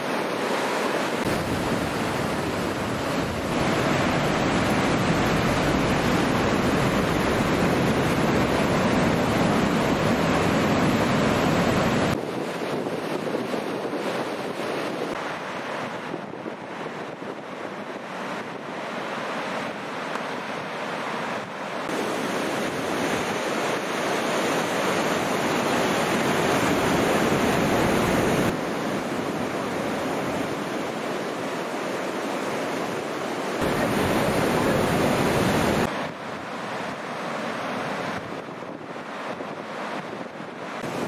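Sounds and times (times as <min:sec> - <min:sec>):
ocean surf breaking: 0:00.0 - 0:41.0
wind buffeting microphone: 0:00.1 - 0:31.6, 0:32.4 - 0:41.0.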